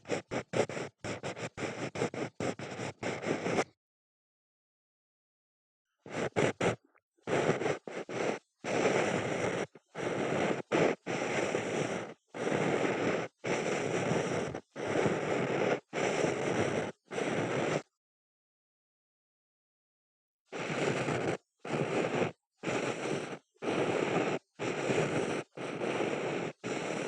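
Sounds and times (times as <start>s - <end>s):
ear pick scraping inside ear: 0.0s - 3.7s, 6.1s - 17.9s, 20.6s - 27.0s.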